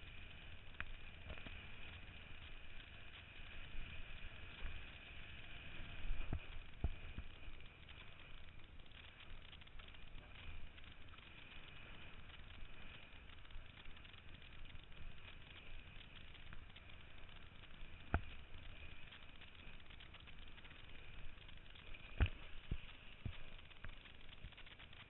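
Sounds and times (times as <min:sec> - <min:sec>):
water rushing under board: 0:00.0 - 0:25.0.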